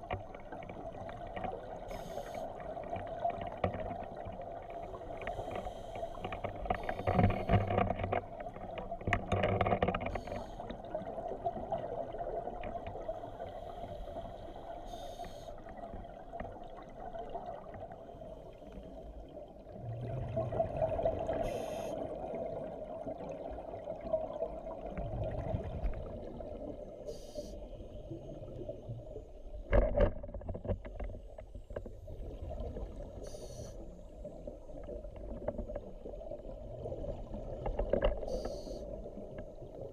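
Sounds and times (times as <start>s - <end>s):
muffled underwater ambience: 0.0s - 39.9s.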